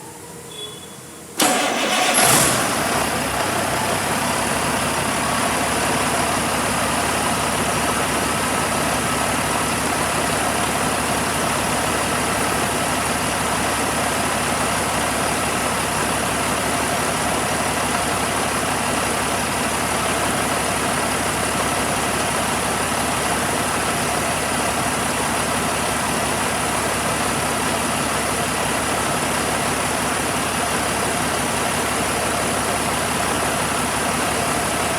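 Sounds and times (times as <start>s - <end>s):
diesel engine starting and idling: 1.2s - 34.9s.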